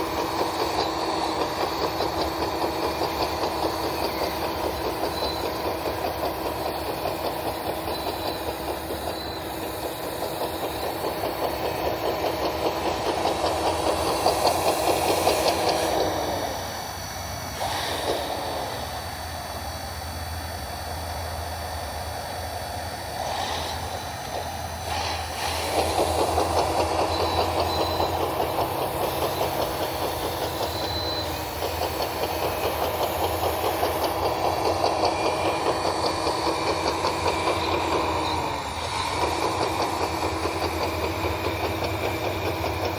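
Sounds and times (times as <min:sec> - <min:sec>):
model bulldozer mechanical chatter: 0:00.0 - 0:42.9.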